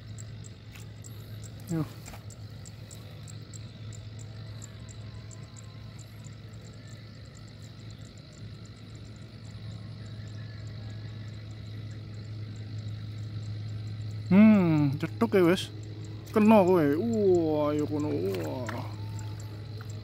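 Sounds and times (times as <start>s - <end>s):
insect chirping: 0.0s - 20.0s
low engine hum: 0.0s - 20.0s.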